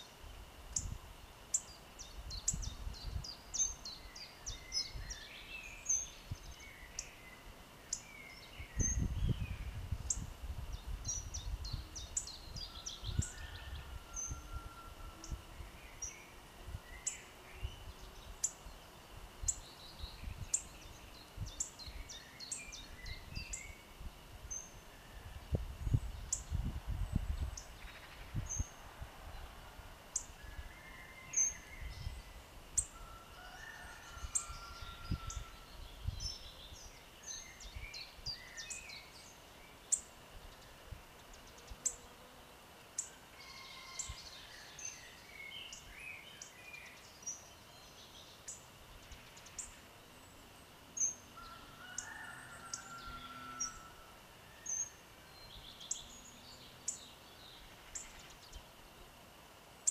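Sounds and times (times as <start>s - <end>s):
wild birds singing and chirping: 0.0s - 59.9s.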